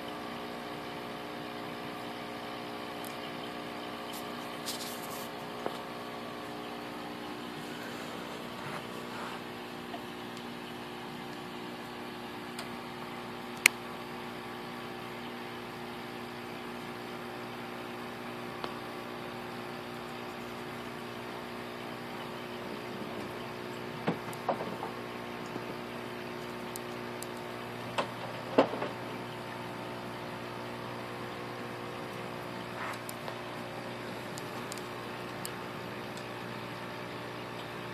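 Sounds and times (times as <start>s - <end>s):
aquarium equipment humming: 0.0s - 37.9s.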